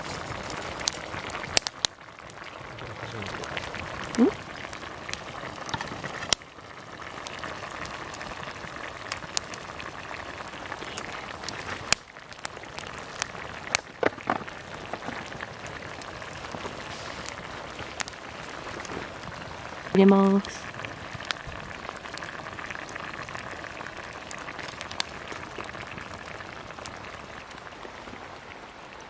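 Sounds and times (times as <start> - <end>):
campfire crackles and pops: 0.0 - 29.0
pot of food boiling: 0.0 - 29.0.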